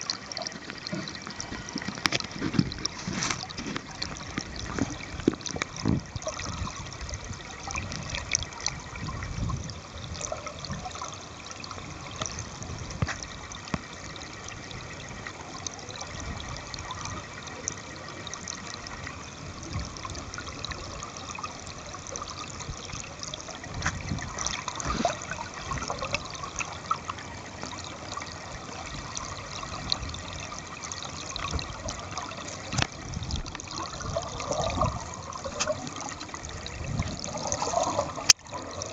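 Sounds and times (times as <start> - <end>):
muffled underwater stream rushing: 0.0 - 38.9.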